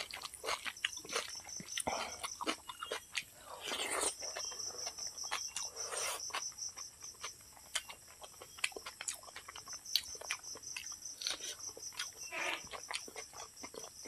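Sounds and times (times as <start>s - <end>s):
chewing and mouth smacking: 0.0s - 14.0s
insects chirring: 0.0s - 14.0s.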